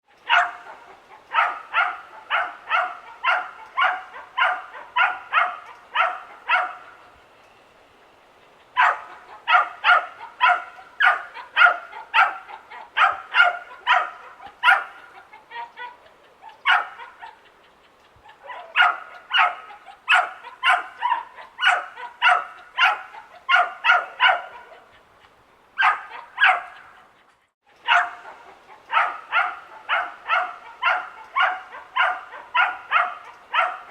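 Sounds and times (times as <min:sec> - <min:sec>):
dog barking: 0:00.2 - 0:07.0, 0:08.8 - 0:17.5, 0:18.2 - 0:25.0, 0:25.8 - 0:27.0, 0:27.8 - 0:33.9.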